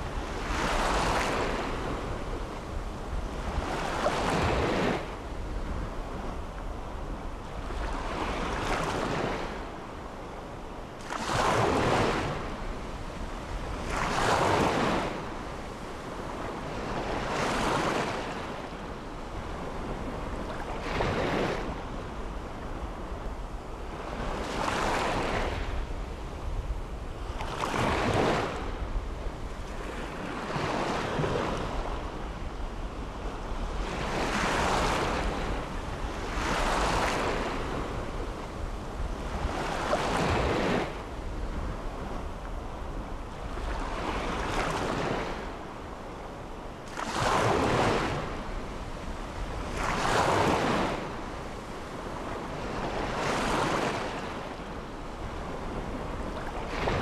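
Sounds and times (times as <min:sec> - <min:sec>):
sea waves breaking on beach: 0:00.0 - 0:06.5, 0:07.6 - 0:09.9, 0:11.0 - 0:57.0.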